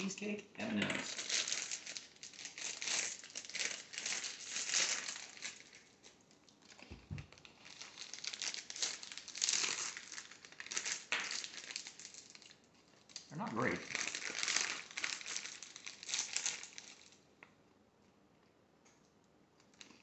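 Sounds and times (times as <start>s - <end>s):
plastic candy bag crinkling: 0.0s - 17.5s, 19.6s - 20.0s.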